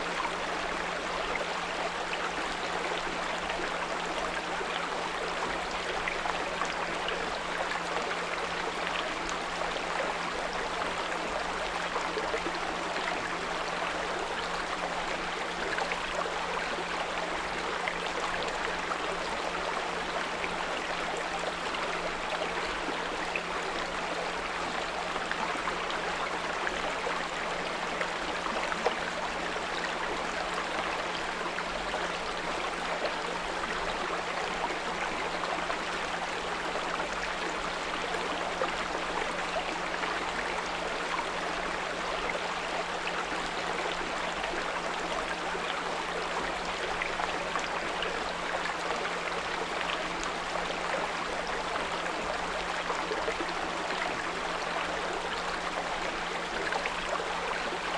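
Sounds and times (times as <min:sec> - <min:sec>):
brook water trickling: 0:00.0 - 0:57.9.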